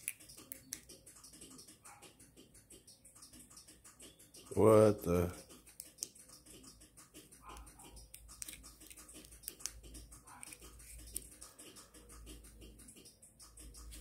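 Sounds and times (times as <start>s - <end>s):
faint irregular clicks: 0.0s - 14.0s.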